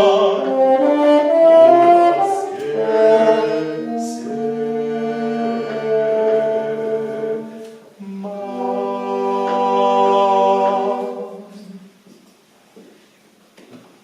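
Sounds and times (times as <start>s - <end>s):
voices singing in harmony: 0.0s - 12.0s.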